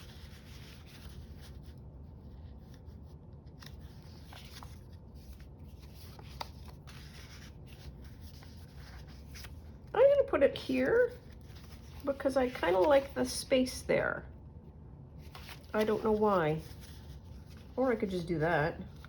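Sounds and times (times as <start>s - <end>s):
paper rustling: 0.0s - 13.4s, 15.2s - 19.0s.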